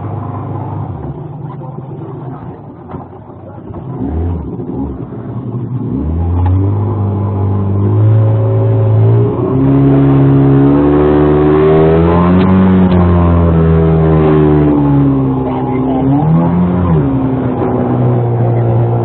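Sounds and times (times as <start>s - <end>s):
engine speeding up under load: 3.7s - 19.0s.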